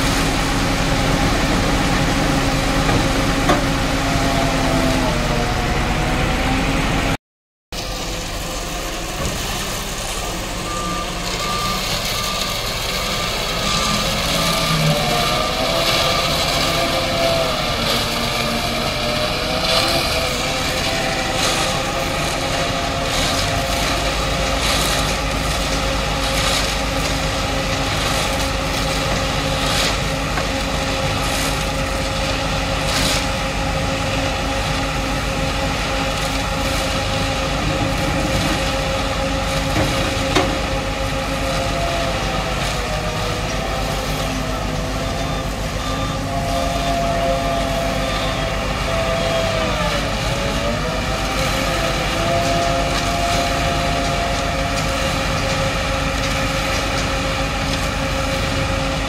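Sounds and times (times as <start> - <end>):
diesel engine and hydraulics running: 0.0 - 7.2, 7.8 - 59.0
wavering whine: 7.9 - 59.0.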